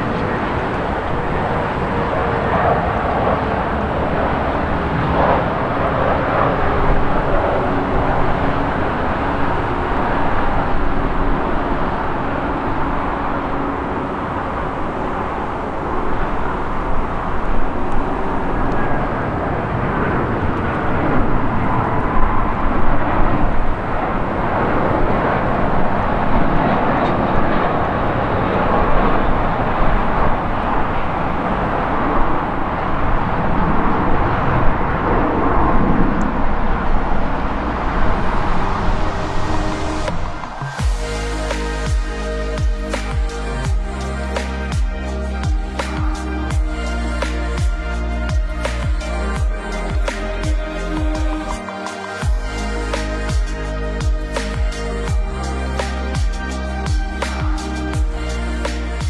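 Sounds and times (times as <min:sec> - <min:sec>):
jet engines on approach: 0:00.0 - 0:59.0.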